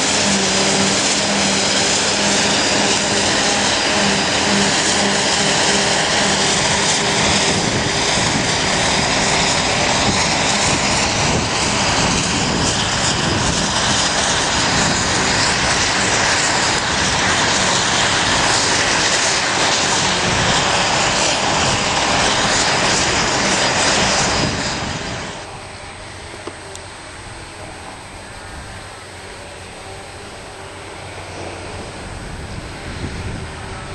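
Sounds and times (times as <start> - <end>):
forage harvester running hard: 0.0 - 33.9.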